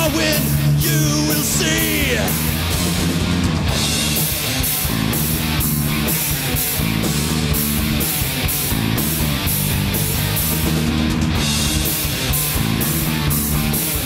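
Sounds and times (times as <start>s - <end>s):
bass: 0.0s - 14.0s
distorted electric guitars: 0.0s - 14.0s
drums: 0.0s - 14.0s.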